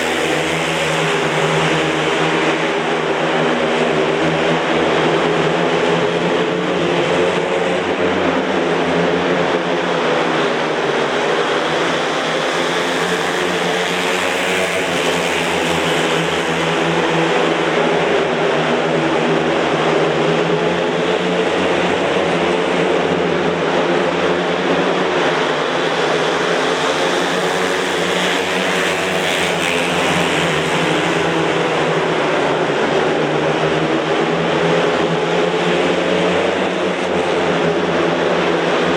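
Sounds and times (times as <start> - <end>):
motorcycles racing: 0.0 - 38.9.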